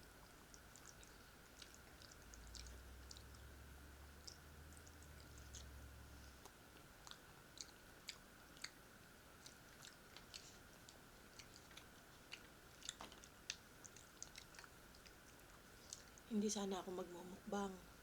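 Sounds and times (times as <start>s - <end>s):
wet chewing mouth clicks: 0.0s - 3.5s, 4.1s - 5.8s, 6.4s - 16.3s
faint high-pitched hum: 0.0s - 18.0s.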